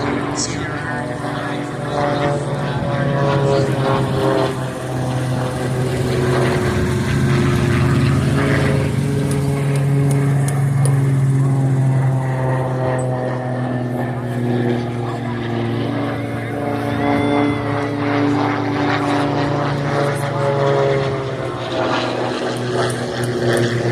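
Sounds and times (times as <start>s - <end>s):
propeller airplane engine: 0.0s - 23.9s.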